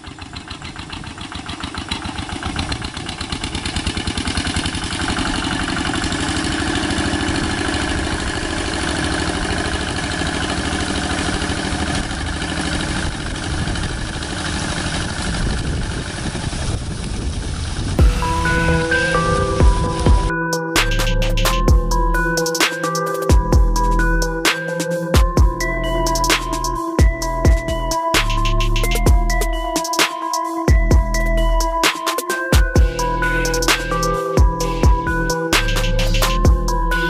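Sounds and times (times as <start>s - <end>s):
diesel engine chugging: 0.0s - 31.9s, 32.6s - 37.0s.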